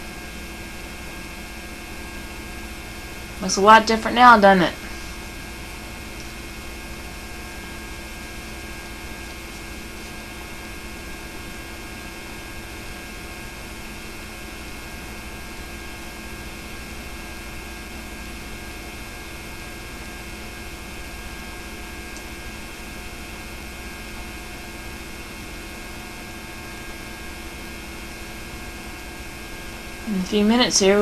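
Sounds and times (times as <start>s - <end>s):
electrical mains hum with hiss: 0.0s - 31.0s.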